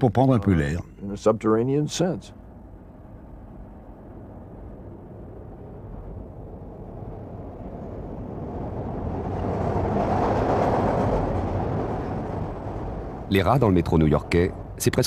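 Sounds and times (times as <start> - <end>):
subway train rumble: 2.8 - 15.0.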